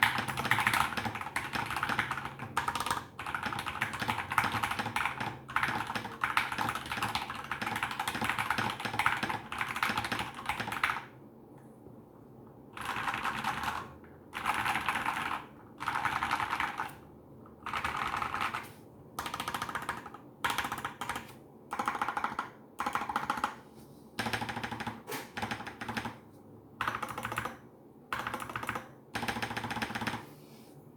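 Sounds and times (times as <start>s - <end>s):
mechanical keyboard typing: 0.0s - 11.1s, 12.8s - 17.0s, 17.6s - 23.6s, 24.2s - 26.2s, 26.8s - 30.2s.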